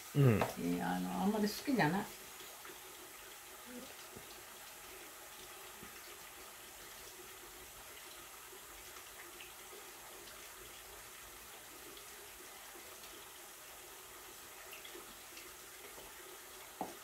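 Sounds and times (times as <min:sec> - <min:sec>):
kitchen tap running: 0:00.0 - 0:17.0.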